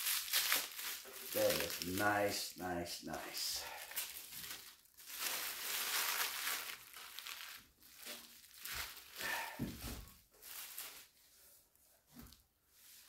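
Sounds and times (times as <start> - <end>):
plastic wrap crinkling: 0.0 - 12.3.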